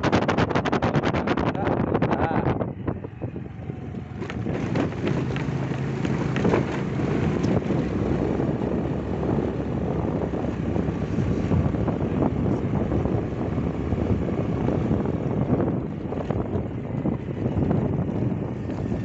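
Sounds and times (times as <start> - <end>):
wind rushing over microphone: 0.0 - 19.0
scooter engine running: 3.1 - 19.0.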